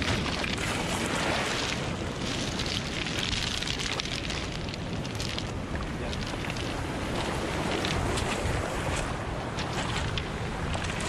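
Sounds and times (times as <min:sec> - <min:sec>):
surf washing over pebbles: 0:00.0 - 0:11.0.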